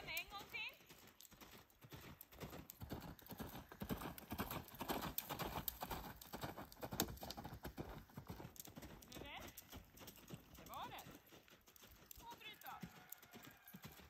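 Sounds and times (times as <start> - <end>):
hoofbeats on gravel and sand: 0.0 - 14.0.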